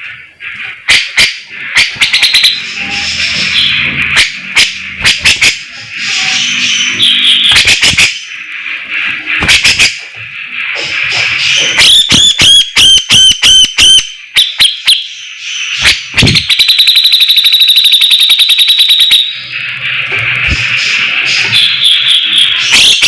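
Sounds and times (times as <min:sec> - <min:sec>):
songbird whistling and trilling: 0:00.9 - 0:08.4, 0:10.8 - 0:19.6, 0:20.7 - 0:23.0.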